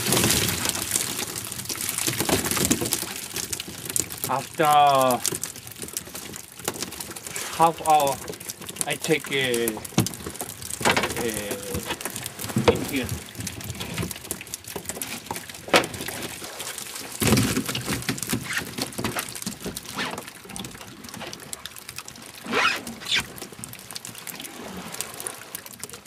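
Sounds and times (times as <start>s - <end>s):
sea water splashing off a net: 0.0s - 26.0s.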